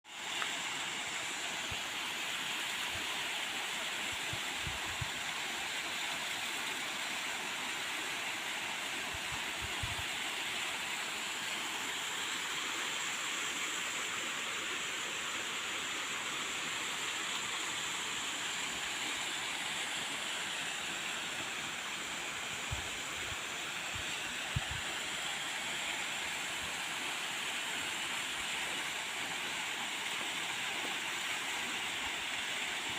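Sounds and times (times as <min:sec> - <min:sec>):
waterfall rushing: 0:00.1 - 0:32.9.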